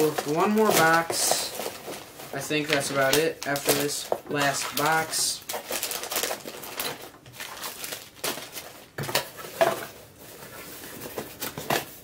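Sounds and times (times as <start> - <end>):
plastic packets rustling: 0.0 - 12.0.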